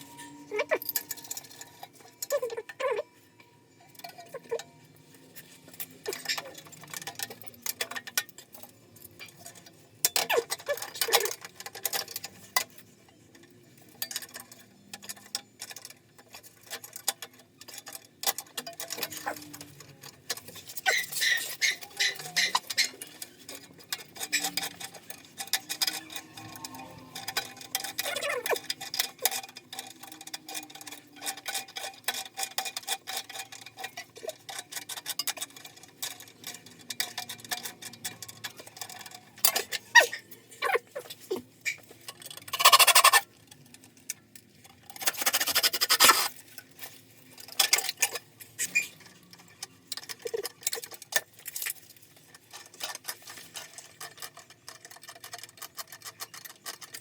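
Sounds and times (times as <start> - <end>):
clicking and tapping on pipes: 5.4 - 57.0.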